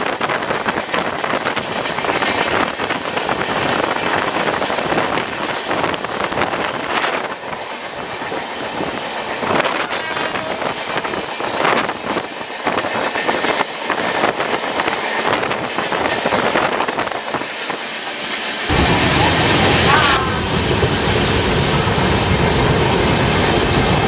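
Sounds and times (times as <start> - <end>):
train wheels clattering on track: 0.0 - 24.0.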